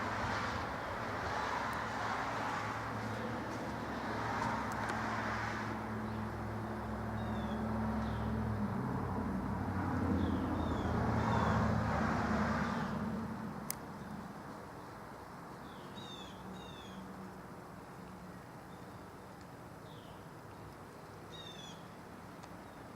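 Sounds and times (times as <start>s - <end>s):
hiss of passing vehicles: 0.0s - 19.8s
traffic engine hum: 0.0s - 22.9s.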